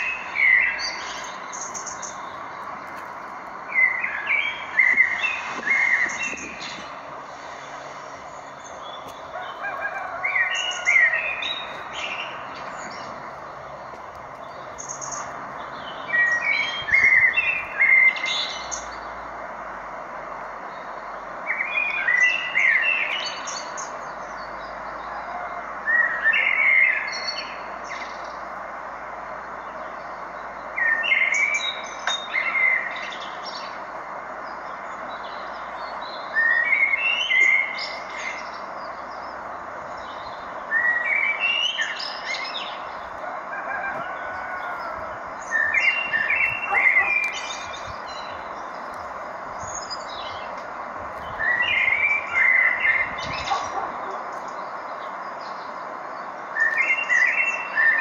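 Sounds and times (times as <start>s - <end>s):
background hiss: 0.0s - 58.0s
songbird singing: 0.0s - 58.0s.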